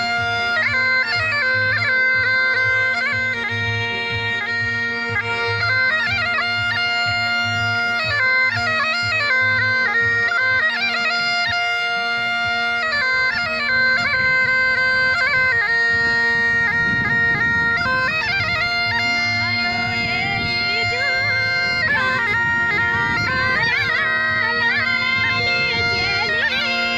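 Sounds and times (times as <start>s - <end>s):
bagpipe melody over drone: 0.0s - 26.9s.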